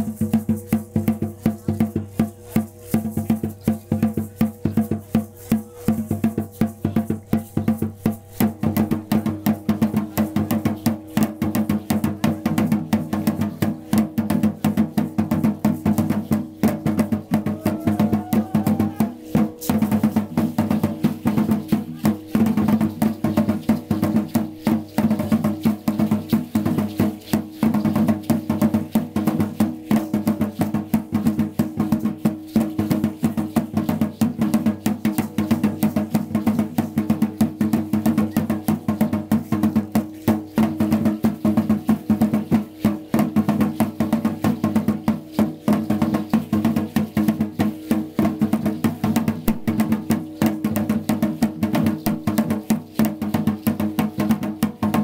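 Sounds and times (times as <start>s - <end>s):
percussion music drumming: 0.0s - 55.0s.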